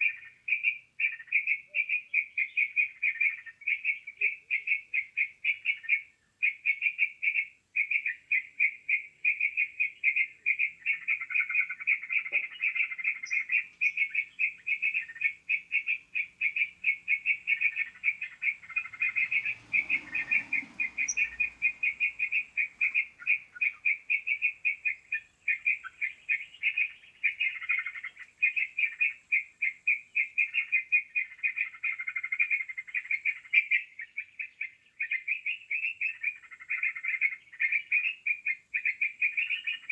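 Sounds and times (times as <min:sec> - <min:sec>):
bird call sharp chirps: 0:00.0 - 0:39.9.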